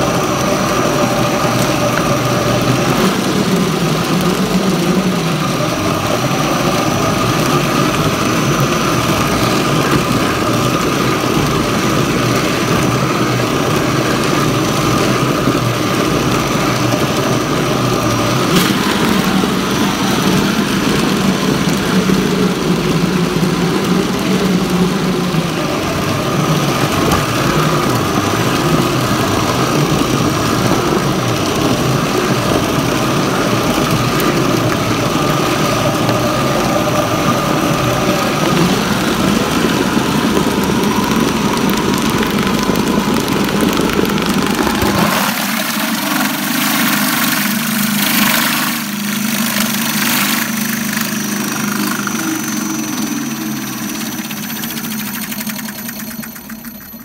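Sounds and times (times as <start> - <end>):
electric meat grinder running: 0.0 - 57.0.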